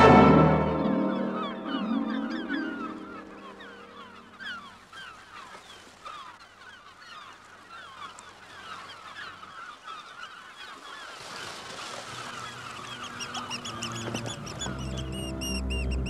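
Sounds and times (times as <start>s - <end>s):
flock of birds honking: 0.0s - 16.0s.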